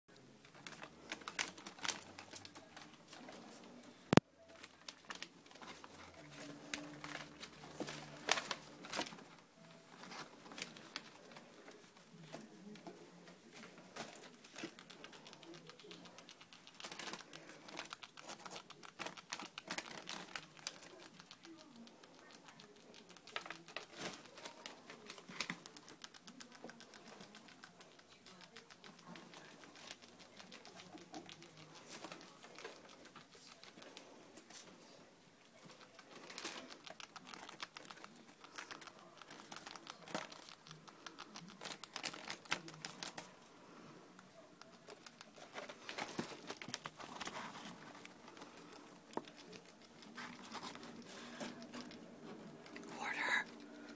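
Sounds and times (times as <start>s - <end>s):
small clicks and scratches: 0.1s - 53.9s
rats rustling through paper: 0.4s - 53.9s.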